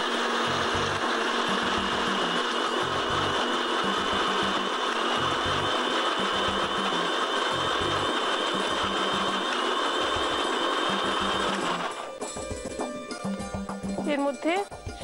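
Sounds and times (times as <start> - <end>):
electric blender running: 0.0 - 12.2.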